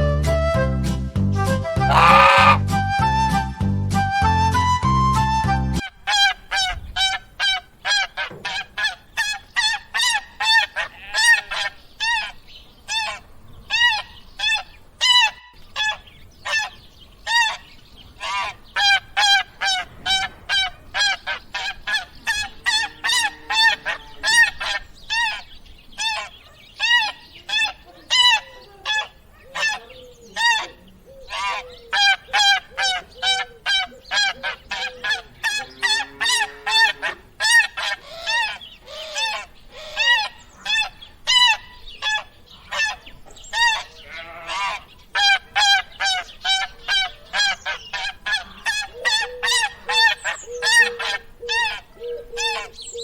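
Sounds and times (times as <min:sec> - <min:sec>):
geese honking: 0:01.8 - 0:02.8, 0:05.8 - 0:53.0.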